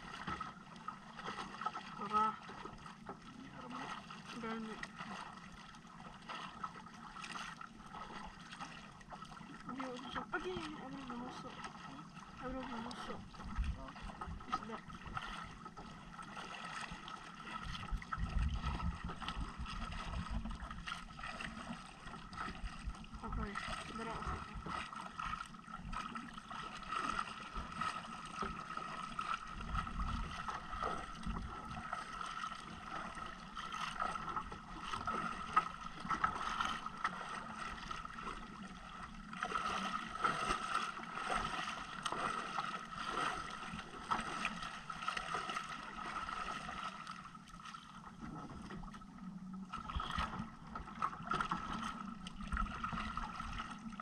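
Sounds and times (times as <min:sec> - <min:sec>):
water lapping against boat hull: 0:00.0 - 0:54.0.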